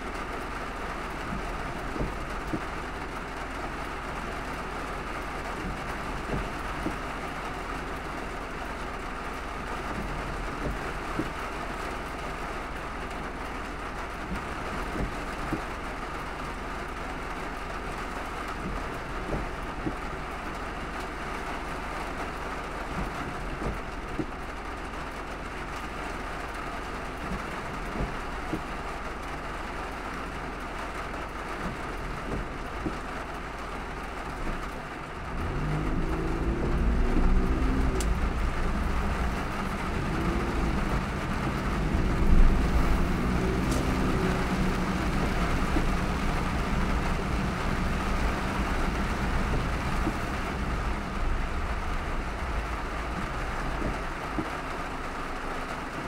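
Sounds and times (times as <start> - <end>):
low engine rumble: 0.0 - 56.0
rain hiss and road noise: 0.0 - 56.0.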